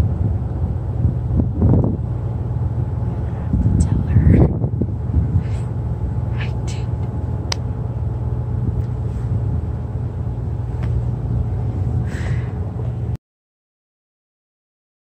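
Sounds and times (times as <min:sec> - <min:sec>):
low mechanical rumble with hum: 0:00.0 - 0:13.2.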